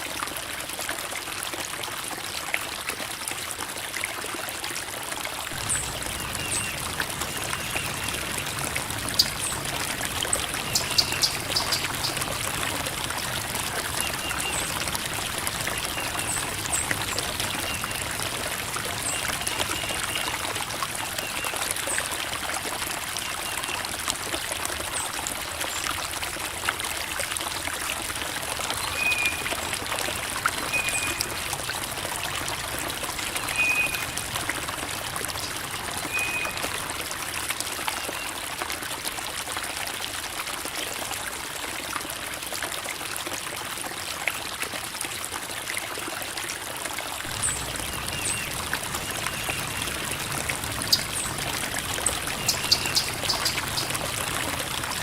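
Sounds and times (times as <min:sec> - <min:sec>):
creek water babbling over rocks: 0:00.0 - 0:55.0.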